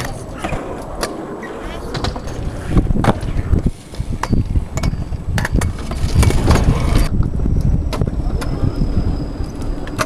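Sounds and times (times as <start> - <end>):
scooter wheels rolling: 0.0 - 10.0
wind on microphone: 0.0 - 10.0.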